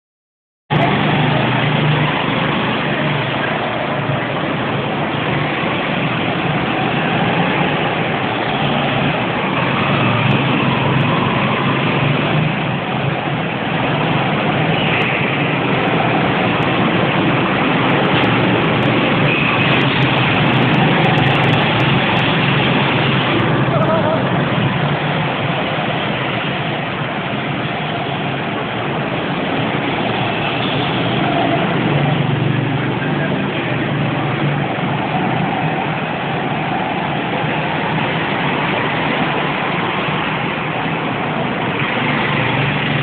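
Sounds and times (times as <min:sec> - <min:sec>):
go-kart engines droning: 0:00.7 - 0:43.0.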